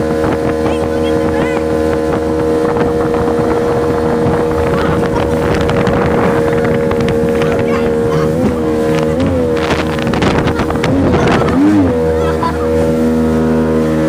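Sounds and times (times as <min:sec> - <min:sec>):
motorboat engine running: 0:00.0 - 0:14.0
wind and water rushing: 0:00.0 - 0:14.0.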